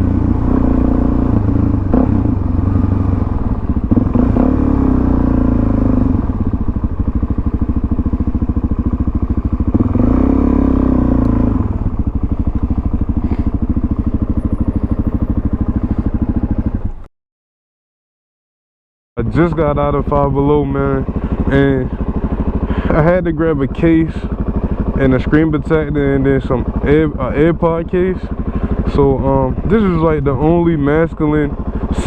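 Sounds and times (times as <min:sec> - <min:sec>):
motorcycle engine revving: 0:00.0 - 0:17.1, 0:19.2 - 0:32.0.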